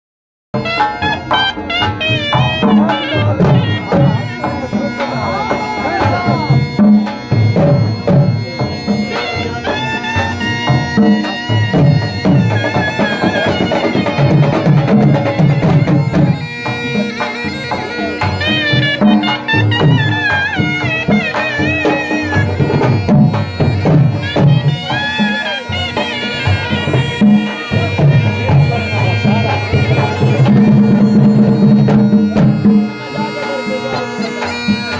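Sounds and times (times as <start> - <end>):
continuous drumming: 0.6 - 34.9
reedy wind instrument melody: 0.6 - 34.9.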